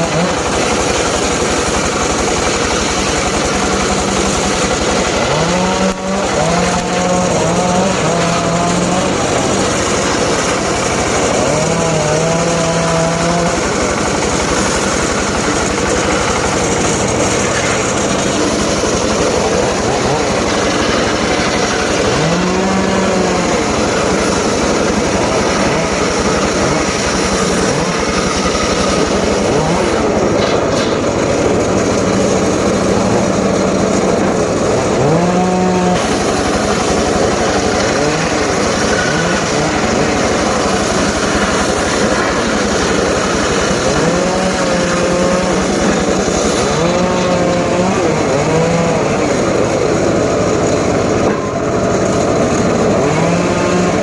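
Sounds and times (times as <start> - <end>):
circular saw cutting wood: 0.0 - 54.0.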